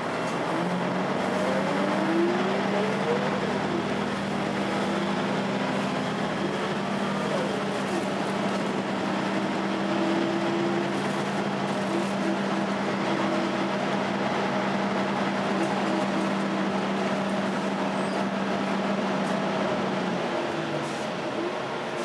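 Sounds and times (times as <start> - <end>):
engine cooling fan drone: 0.0 - 22.0.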